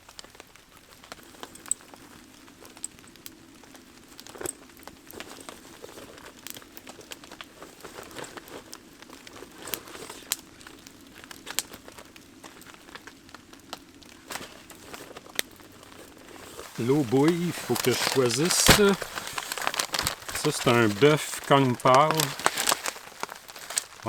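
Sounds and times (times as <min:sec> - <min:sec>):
campfire crackling and popping: 0:00.0 - 0:24.0
pot of water heating: 0:00.0 - 0:24.0.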